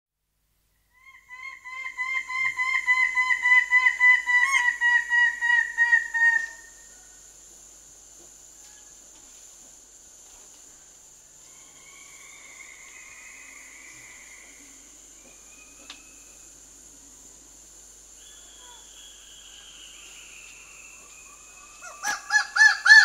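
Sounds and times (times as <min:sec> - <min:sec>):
cicadas and crickets droning: 0:00.7 - 0:23.0.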